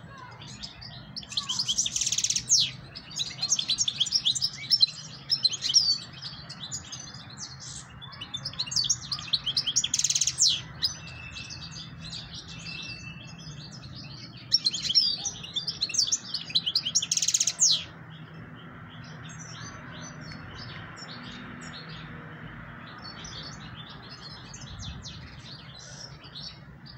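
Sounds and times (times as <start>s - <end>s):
goldfinch twittering song: 0.2s - 26.9s.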